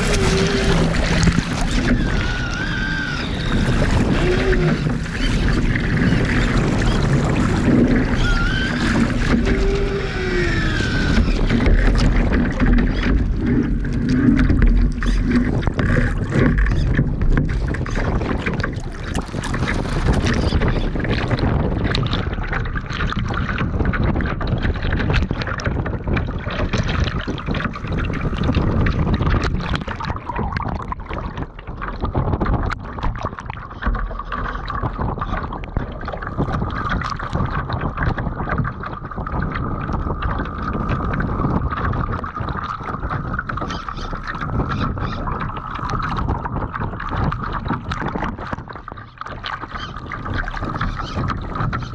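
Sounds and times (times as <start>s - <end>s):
water rushing and splashing along hull: 0.0s - 51.9s
wind buffeting microphone: 0.0s - 51.9s.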